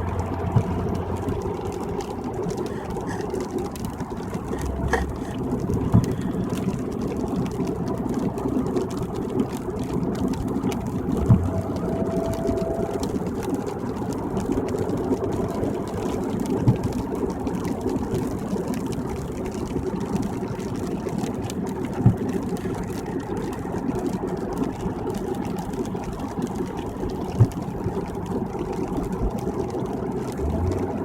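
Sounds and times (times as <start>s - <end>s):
tyre noise on wet road: 0.0s - 31.0s.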